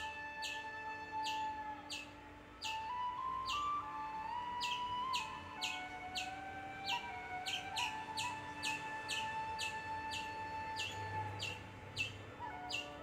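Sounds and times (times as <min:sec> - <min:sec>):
bird chirping: 0:00.0 - 0:13.0
slow melody of long notes: 0:00.0 - 0:13.0.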